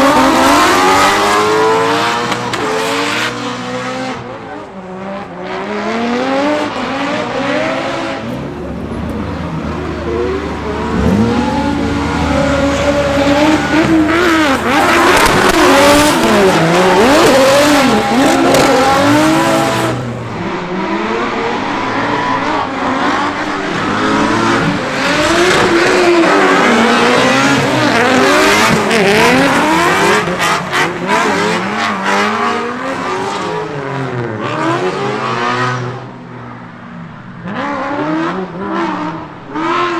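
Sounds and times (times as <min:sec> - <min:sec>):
car engine revving hard: 0:00.0 - 0:04.2, 0:05.1 - 0:36.1.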